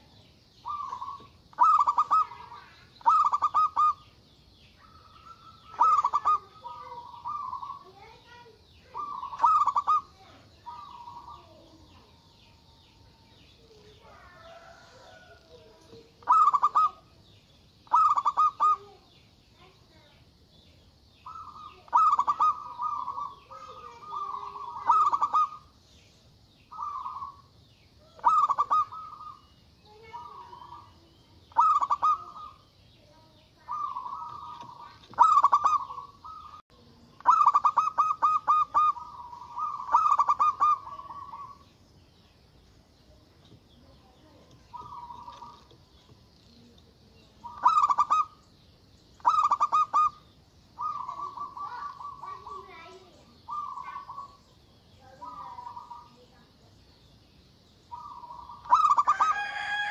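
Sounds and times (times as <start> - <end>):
dove cooing: 0.0 - 4.2, 4.8 - 19.7, 21.2 - 25.8, 26.7 - 41.7, 44.2 - 46.0, 46.6 - 48.4, 49.2 - 56.5, 57.9 - 59.9.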